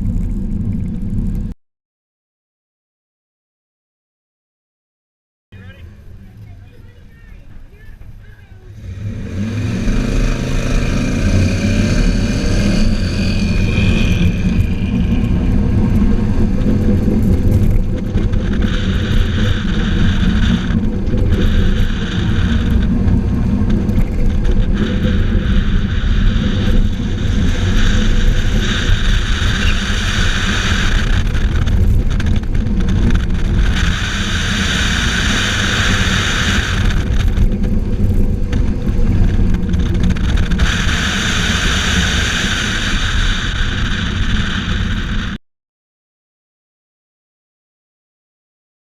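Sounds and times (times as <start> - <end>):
road and tyre noise: 0.0 - 1.6, 5.5 - 45.4
car engine accelerating: 5.6 - 45.4.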